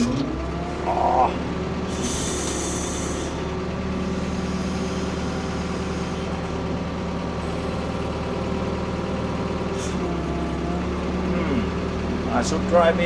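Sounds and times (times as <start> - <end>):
excavator engine humming: 0.0 - 13.0.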